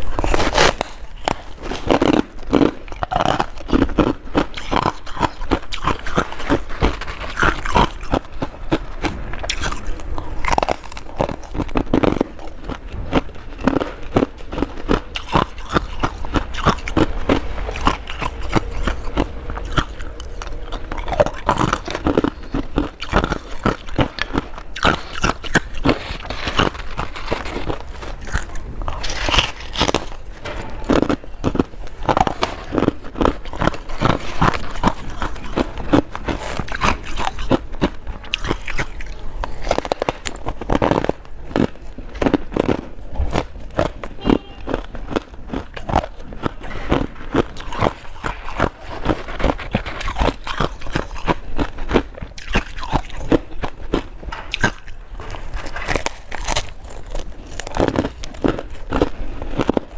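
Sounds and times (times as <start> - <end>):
crunchy frost chewed: 0.0 - 59.9.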